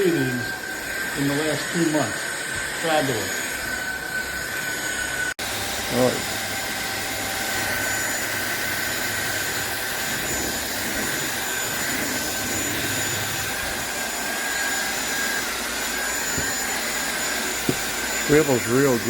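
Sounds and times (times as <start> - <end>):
stick vacuum motor whirring: 0.0 - 19.0.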